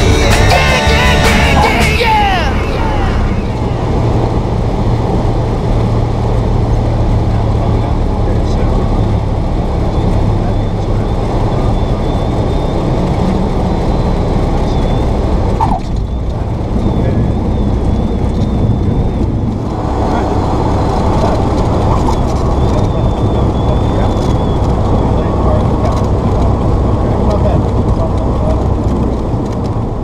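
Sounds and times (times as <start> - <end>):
propeller plane engine drone: 2.4 - 30.0.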